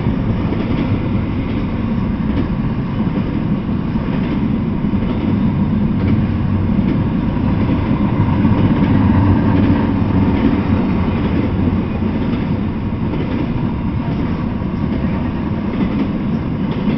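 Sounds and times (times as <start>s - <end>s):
freight train rolling past: 0.0s - 16.9s
steel wheels on rails: 0.0s - 16.9s.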